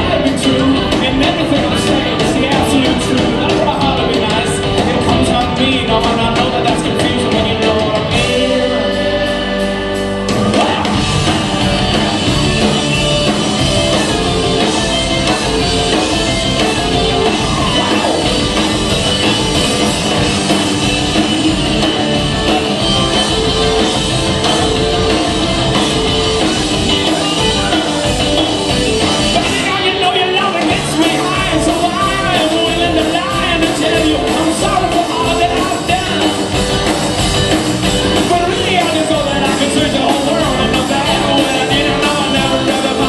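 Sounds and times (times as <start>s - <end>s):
person singing: 0.0s - 12.7s, 13.9s - 19.5s, 22.7s - 36.6s, 38.0s - 43.0s
bass guitar: 0.0s - 43.0s
drum kit: 0.0s - 43.0s
electric guitars: 0.0s - 43.0s.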